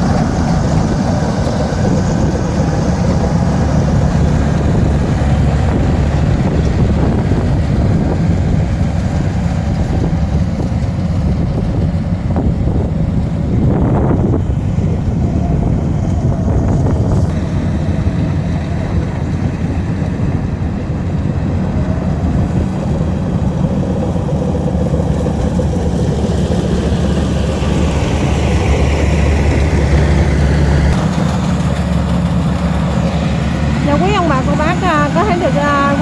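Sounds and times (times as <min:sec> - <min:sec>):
combine harvester engine running: 0:00.0 - 0:36.0
wind rumbling on microphone: 0:00.0 - 0:36.0.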